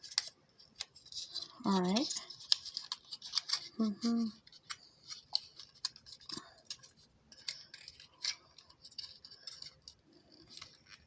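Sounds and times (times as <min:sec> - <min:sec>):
plastic parts clicking and scraping: 0:00.0 - 0:11.0.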